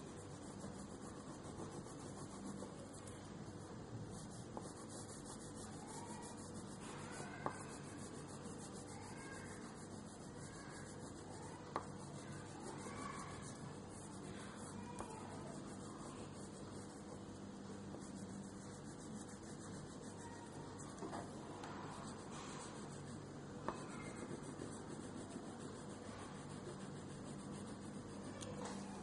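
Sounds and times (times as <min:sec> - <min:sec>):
crayon scribbling on paper: 0:00.0 - 0:29.0.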